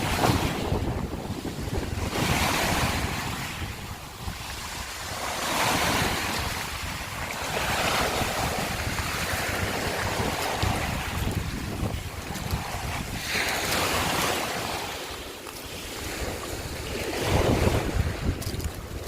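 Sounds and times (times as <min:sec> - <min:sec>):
waves washing over shells: 0:00.0 - 0:19.0
wind rumble on microphone: 0:00.0 - 0:19.0.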